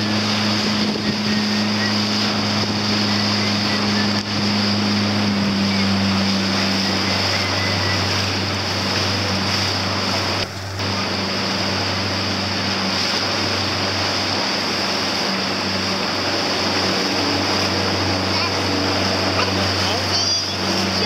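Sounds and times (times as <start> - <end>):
motorboat engine running: 0.0 - 21.0
water noise: 0.0 - 21.0
wind: 0.0 - 21.0.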